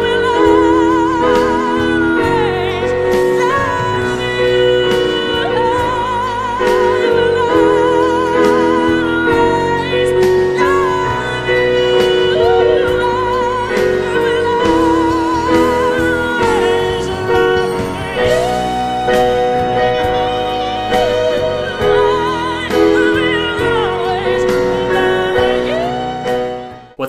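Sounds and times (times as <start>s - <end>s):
digital piano playing chords: 0.0s - 27.0s
high voice singing with vibrato: 0.0s - 27.0s.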